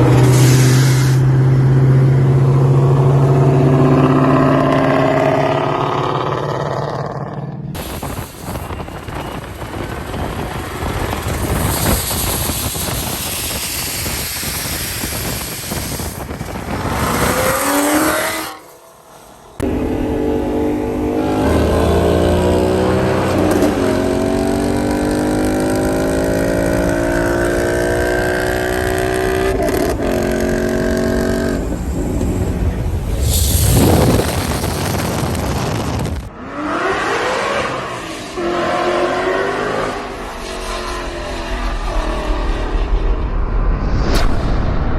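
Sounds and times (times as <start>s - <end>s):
car engine accelerating hard: 0.0s - 43.1s.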